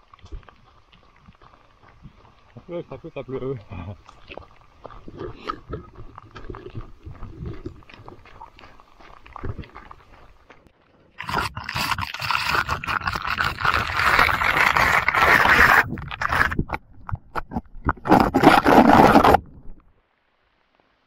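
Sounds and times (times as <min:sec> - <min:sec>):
wet grass rustling against camera: 0:00.0 - 0:19.8.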